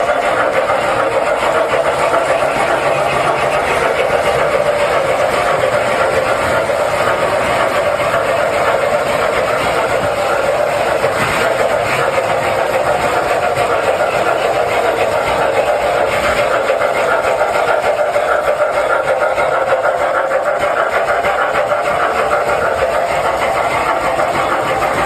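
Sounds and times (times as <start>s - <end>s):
model train running on track: 0.0s - 25.0s.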